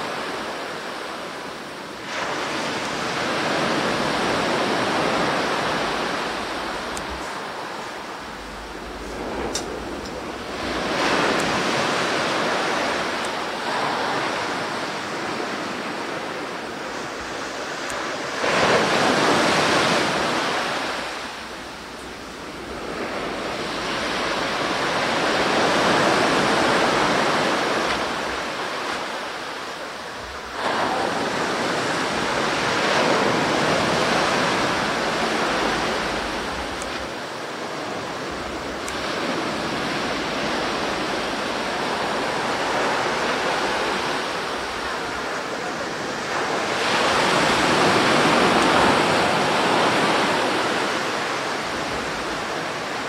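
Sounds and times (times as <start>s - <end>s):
waves rushing on beach: 0.0s - 53.0s.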